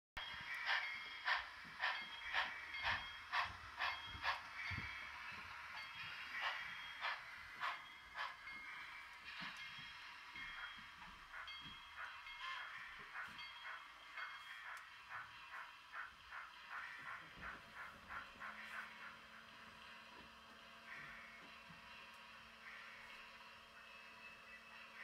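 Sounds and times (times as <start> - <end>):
steam locomotive exhaust chuffs: 0.2 - 25.0
steady steam hiss: 0.3 - 25.0.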